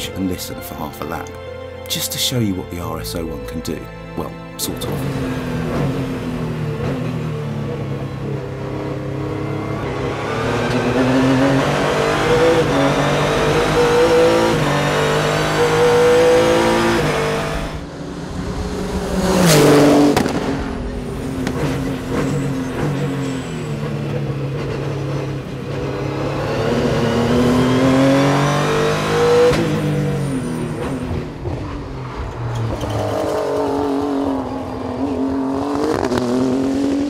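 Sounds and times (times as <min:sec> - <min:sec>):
race car engine at full throttle: 0:04.6 - 0:37.0
race car rushing past: 0:04.9 - 0:37.0.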